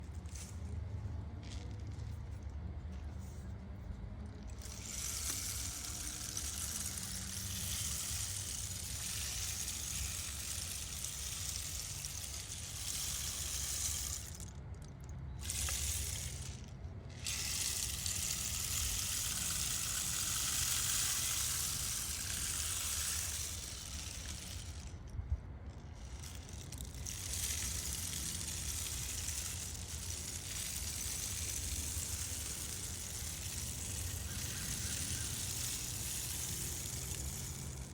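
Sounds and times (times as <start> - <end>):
steady low rumble: 0.0 - 37.9
rainstick beads trickling: 1.4 - 2.6, 4.4 - 37.9.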